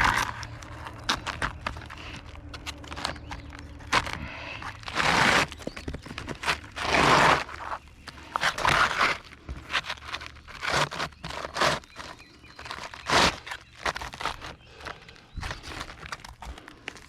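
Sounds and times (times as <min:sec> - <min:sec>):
scraping and crunching shingle: 0:00.0 - 0:17.0.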